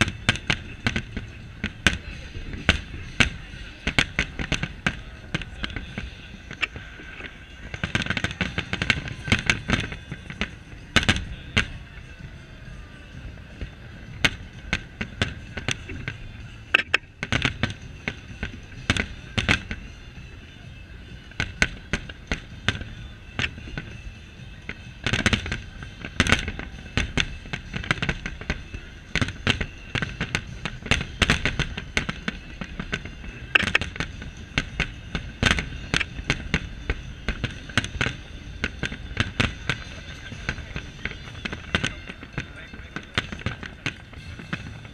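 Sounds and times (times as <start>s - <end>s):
fireworks bursting with sharp bangs: 0.0s - 44.9s.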